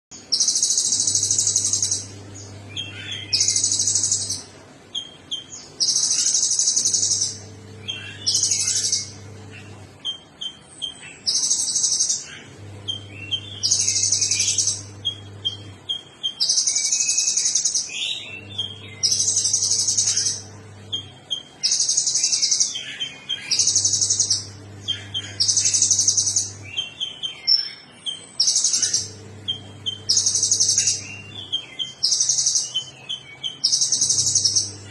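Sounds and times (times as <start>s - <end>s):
bird chirps: 0.2s - 34.9s
low hum: 0.6s - 27.2s, 28.4s - 34.9s.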